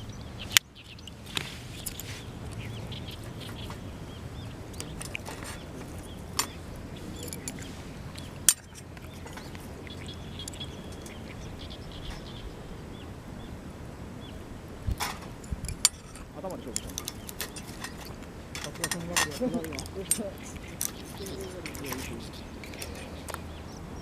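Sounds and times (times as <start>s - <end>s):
small birds chirping: 0.0s - 24.0s
steady low rush: 0.0s - 24.0s.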